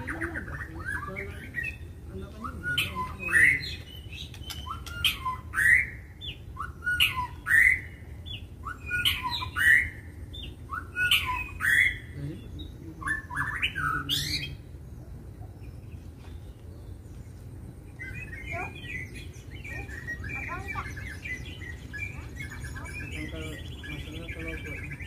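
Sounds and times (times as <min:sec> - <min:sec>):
bird calling with whistles and rasps: 0:00.0 - 0:25.0.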